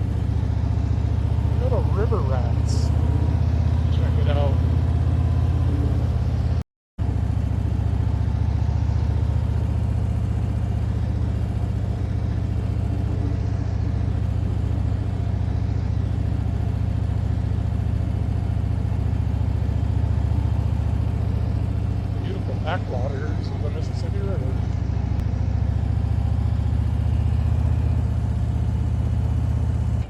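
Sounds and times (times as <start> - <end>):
motorcycle engine cruising: 0.0 - 30.0
road and wind noise: 0.0 - 30.0.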